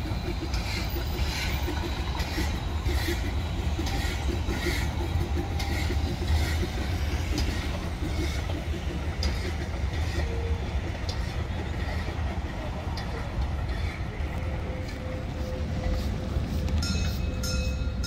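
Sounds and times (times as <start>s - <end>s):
steam exhaust puffs: 0.0s - 17.6s
train rumbling: 0.0s - 18.0s.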